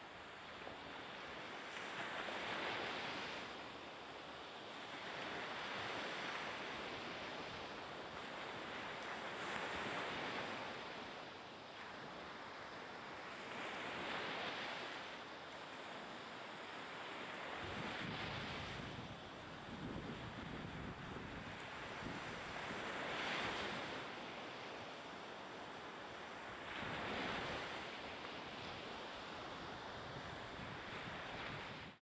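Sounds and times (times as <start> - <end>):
small waves washing on shore: 0.0 - 32.0
wind: 0.0 - 32.0.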